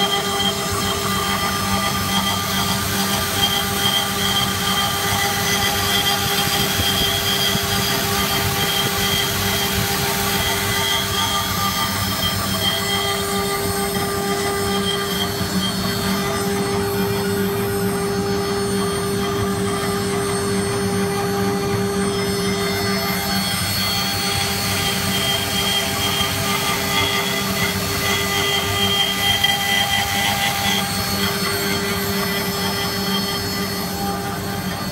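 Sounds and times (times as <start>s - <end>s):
router spindle whine: 0.0s - 34.9s
wood cutting noise: 0.0s - 34.9s.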